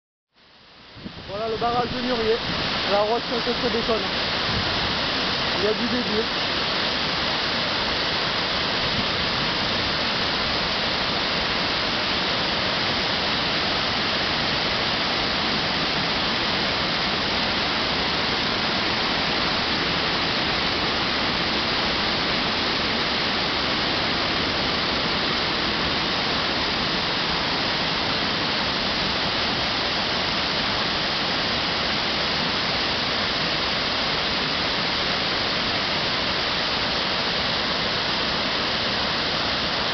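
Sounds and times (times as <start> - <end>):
water rushing over a weir: 0.4 - 39.9.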